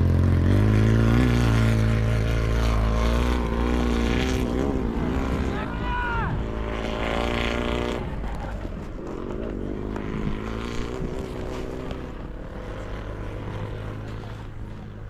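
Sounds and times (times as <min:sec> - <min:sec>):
motorcycle engines at high revs: 0:00.0 - 0:15.0.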